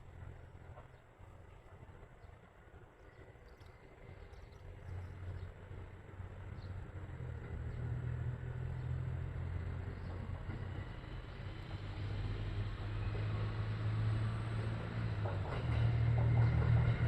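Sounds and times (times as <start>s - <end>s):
railcar engine drone: 0.0s - 17.0s.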